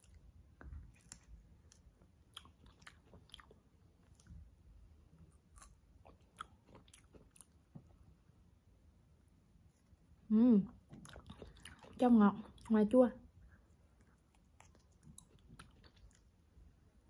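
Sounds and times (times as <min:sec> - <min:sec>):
chewing strawberry: 0:00.0 - 0:08.4, 0:09.1 - 0:17.0.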